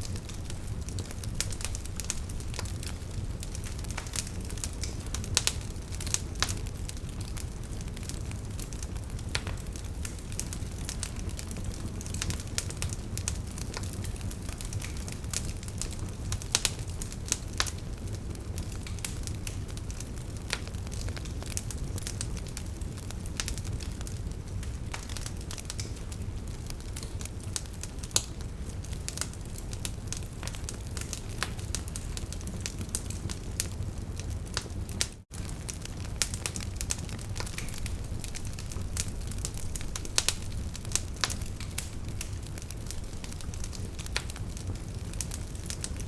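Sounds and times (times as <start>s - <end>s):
fireplace fire crackling: 0.0s - 46.0s.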